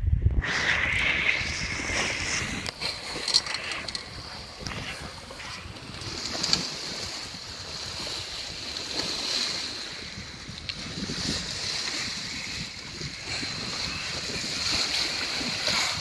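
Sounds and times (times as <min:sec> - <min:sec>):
wind on microphone: 0:00.0 - 0:16.0
water splashing along boat hull: 0:01.9 - 0:16.0.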